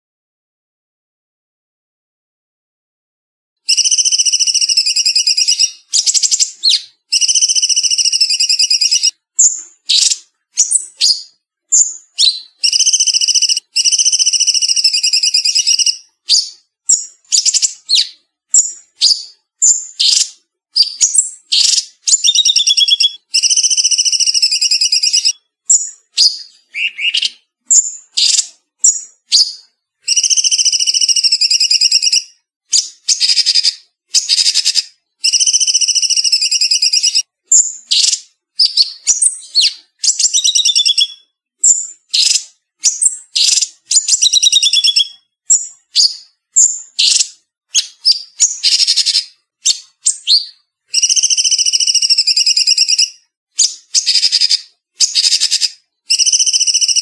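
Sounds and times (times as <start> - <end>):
songbird chirping and trilling: 3.7 - 57.0.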